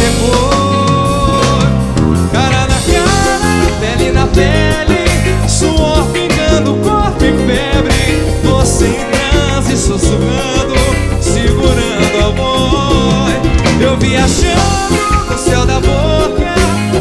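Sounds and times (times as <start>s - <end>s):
drum kit beat: 0.0s - 17.0s
live band music: 0.0s - 17.0s
strummed guitars: 0.0s - 17.0s.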